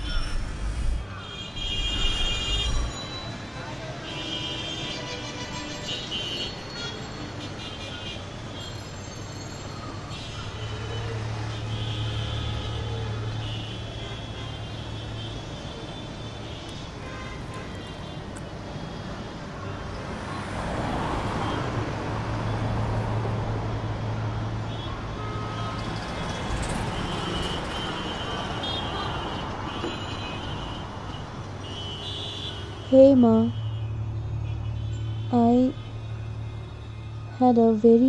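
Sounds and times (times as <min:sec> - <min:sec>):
traffic engine drone: 0:00.0 - 0:38.0.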